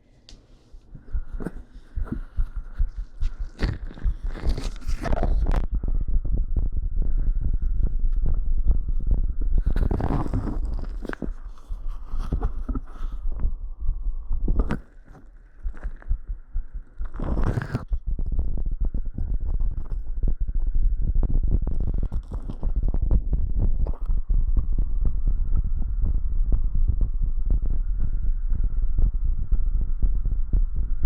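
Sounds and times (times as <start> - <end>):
microphone rubbing: 0.7 - 31.0
heartbeat thumps: 0.9 - 31.0.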